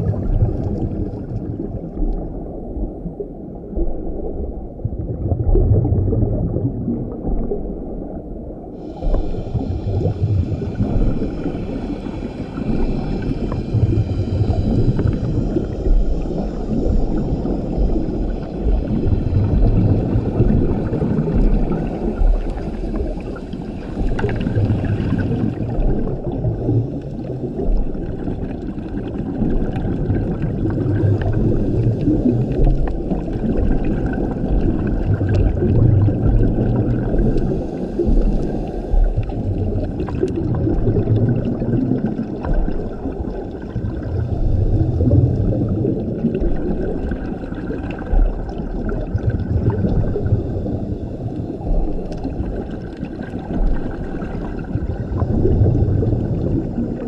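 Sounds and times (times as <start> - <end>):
exhaled bubbles gurgling: 0.0 - 57.0
scuba regulator breathing underwater: 8.7 - 57.0.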